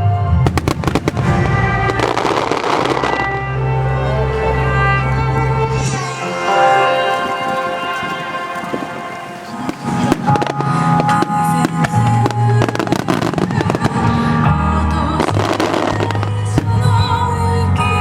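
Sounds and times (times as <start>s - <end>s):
music: 0.0s - 18.0s
fireworks banging and crackling: 0.4s - 3.5s, 5.7s - 17.3s.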